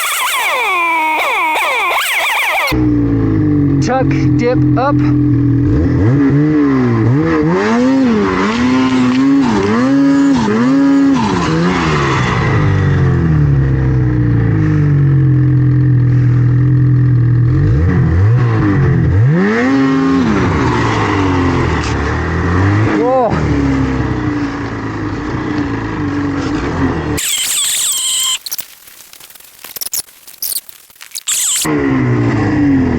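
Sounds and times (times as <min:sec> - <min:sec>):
snowmobile engine revving: 0:00.0 - 0:03.2, 0:03.9 - 0:13.7, 0:17.5 - 0:24.5, 0:25.2 - 0:32.9.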